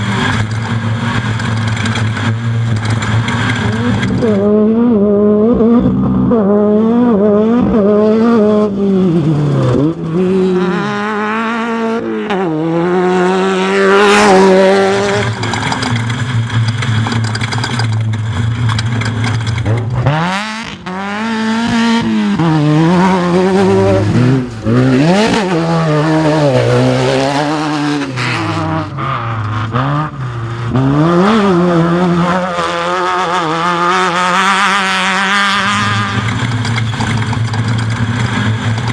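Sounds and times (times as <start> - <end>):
engine revving: 0.0 - 38.9.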